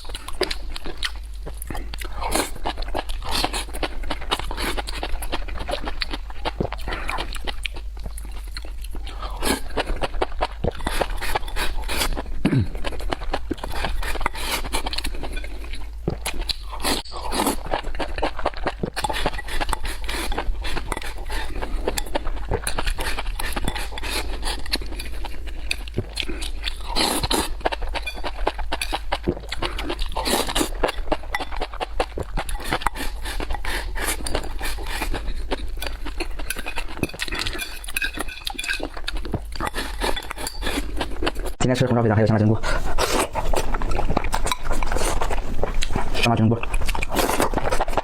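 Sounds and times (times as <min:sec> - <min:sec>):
person chewing and smacking food: 0:00.0 - 0:48.0
steady low hum: 0:00.0 - 0:48.0.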